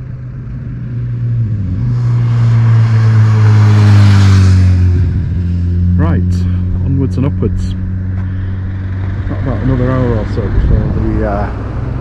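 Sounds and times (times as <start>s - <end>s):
vehicle driving past: 0.0s - 12.0s.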